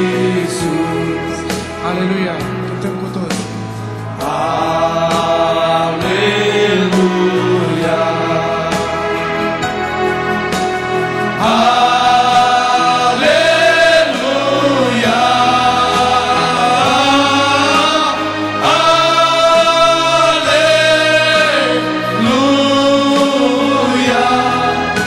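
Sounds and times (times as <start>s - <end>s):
male vocal group singing: 0.0s - 2.4s, 4.1s - 25.0s
instrumental backing: 0.0s - 25.0s.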